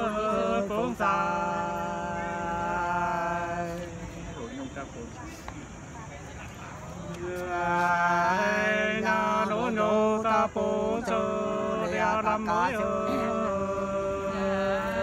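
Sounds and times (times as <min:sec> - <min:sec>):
two men singing unaccompanied: 0:00.0 - 0:04.8, 0:07.0 - 0:15.0.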